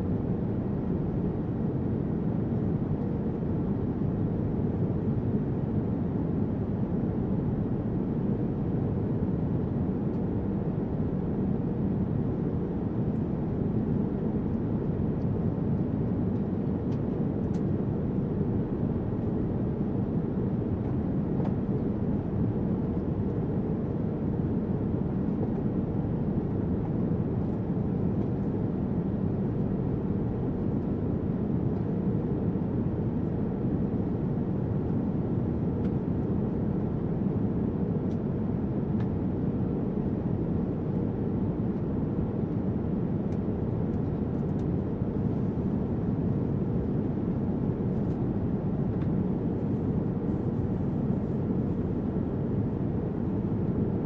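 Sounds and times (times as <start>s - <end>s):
airliner cabin engine rush: 0.0s - 54.0s
faint steady hum: 0.0s - 54.0s.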